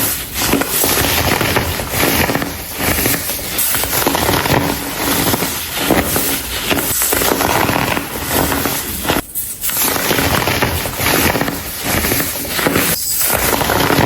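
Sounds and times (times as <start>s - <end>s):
baking soda chunks crushing: 0.0s - 14.0s.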